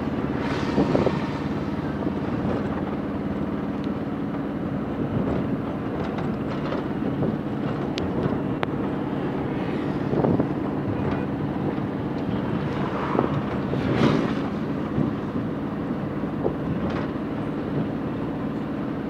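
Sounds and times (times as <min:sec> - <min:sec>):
wind on microphone: 0:00.0 - 0:03.7, 0:05.0 - 0:18.0
vehicle engine and road noise: 0:00.0 - 0:19.0.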